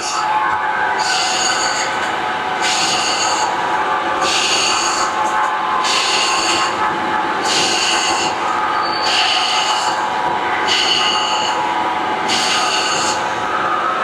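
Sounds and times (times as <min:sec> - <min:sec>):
high-pitched cutting squeal: 0:00.0 - 0:11.7, 0:12.3 - 0:13.4
machine humming: 0:00.0 - 0:14.0.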